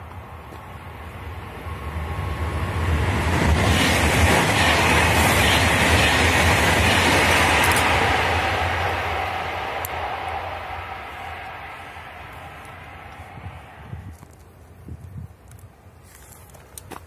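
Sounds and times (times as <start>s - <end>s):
electric train passing at speed: 0.0s - 15.6s.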